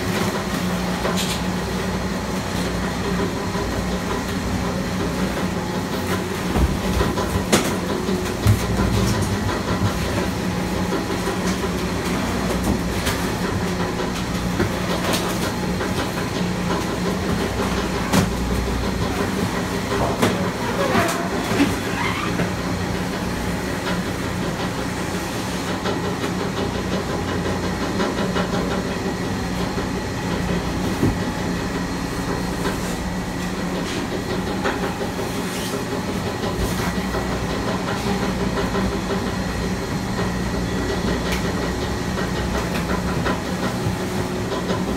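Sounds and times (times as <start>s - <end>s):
compactor humming: 0.0s - 44.9s.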